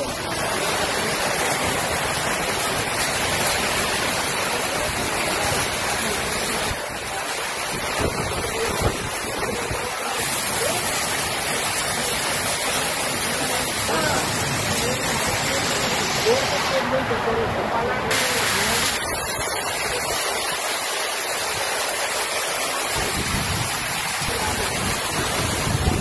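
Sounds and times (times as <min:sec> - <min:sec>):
heavy rain: 0:00.0 - 0:26.0
wind gusts: 0:00.0 - 0:26.0.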